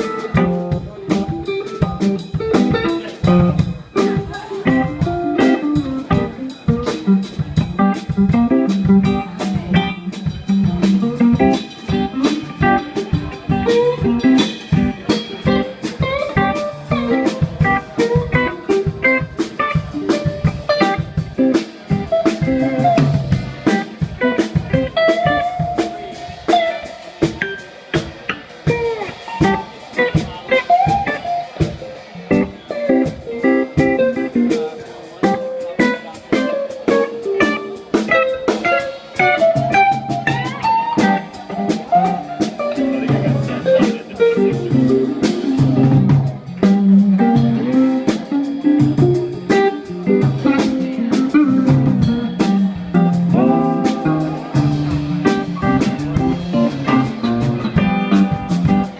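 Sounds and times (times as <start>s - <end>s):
bass: 0.0s - 58.9s
drum kit hits: 0.0s - 58.9s
guitar lines: 0.0s - 58.9s.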